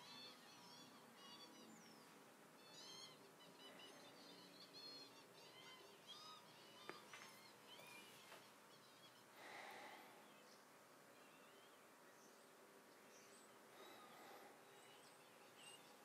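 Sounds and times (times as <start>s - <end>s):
birds twittering: 0.0s - 16.0s.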